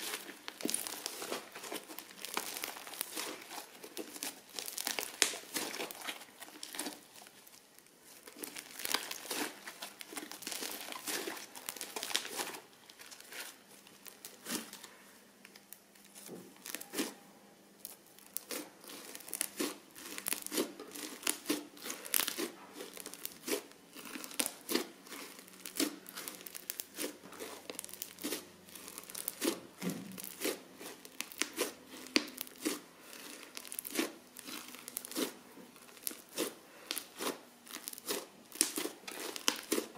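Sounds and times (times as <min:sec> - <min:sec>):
crunchy slime crackling: 0:00.0 - 0:39.9.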